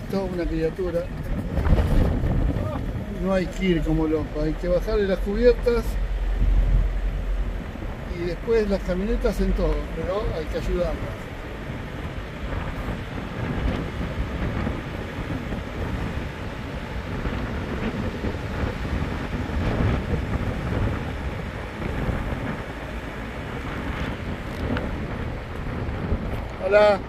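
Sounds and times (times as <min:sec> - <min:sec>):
vehicle engine and tyres rumble: 0:00.0 - 0:27.0
wind buffeting microphone: 0:00.0 - 0:27.0.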